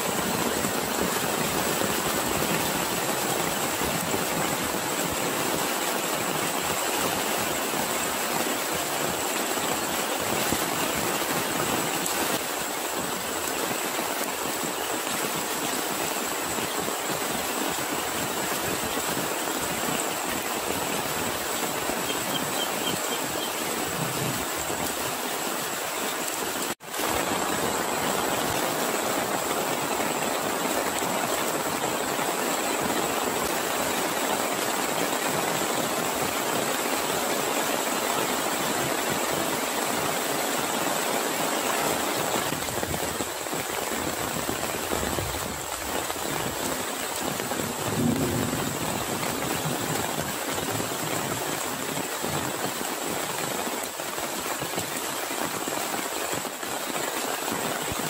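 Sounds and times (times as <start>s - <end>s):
heavy rain on pond and grass: 0.0s - 58.0s.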